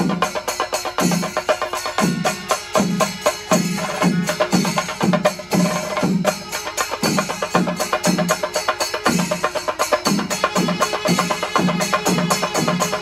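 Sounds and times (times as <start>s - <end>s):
cymbals clashing: 0.0s - 13.0s
massed drums: 0.0s - 13.0s.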